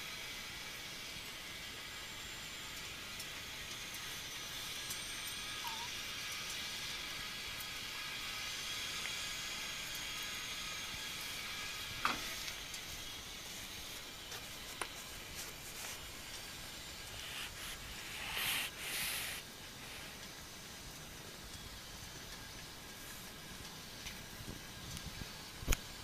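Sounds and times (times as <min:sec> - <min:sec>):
stove flames hissing: 0:00.0 - 0:26.0.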